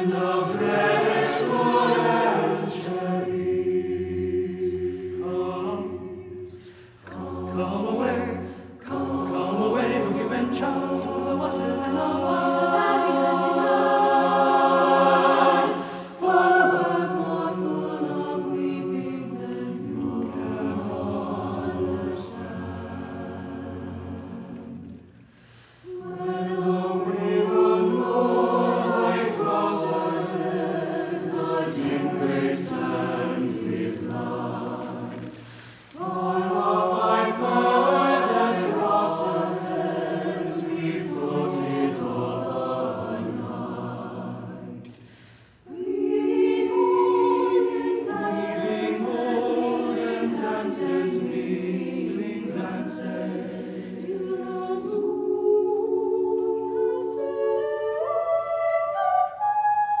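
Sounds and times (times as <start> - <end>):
choir singing sustained chords: 0.0 - 60.0.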